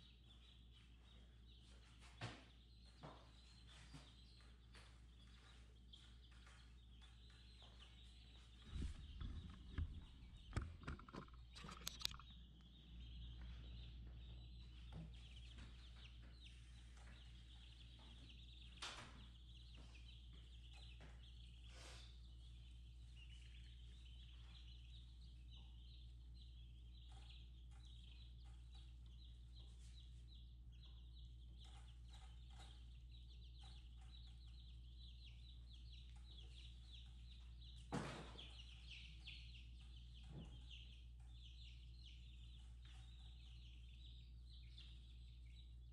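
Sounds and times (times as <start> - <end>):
baby chicks peeping: 0.0 - 45.9.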